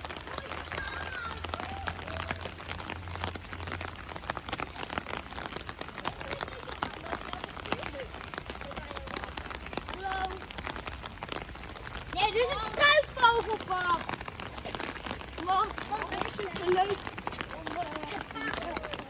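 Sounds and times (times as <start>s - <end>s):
raindrops ticking close by: 0.0s - 19.0s
steady rain: 0.0s - 19.0s.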